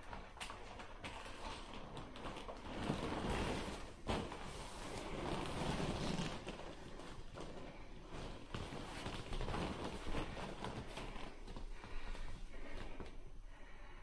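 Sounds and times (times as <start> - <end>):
vinyl inflatable crumpling: 0.0 - 13.1.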